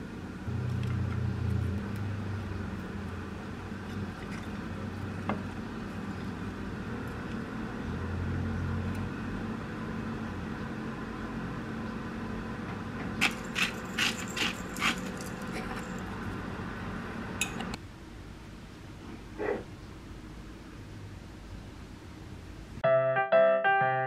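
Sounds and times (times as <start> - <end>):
kitchen room hum: 0.0 - 22.8.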